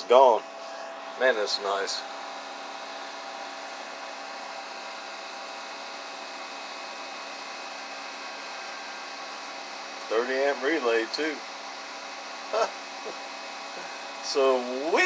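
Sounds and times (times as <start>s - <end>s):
faint hum: 0.0s - 15.0s
fan hiss: 0.0s - 15.0s.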